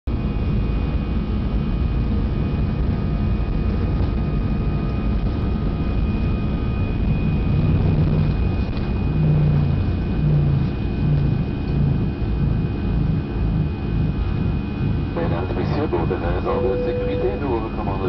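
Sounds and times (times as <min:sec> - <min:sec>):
jet engine whine: 0:00.1 - 0:18.0
low rumble: 0:00.1 - 0:18.0.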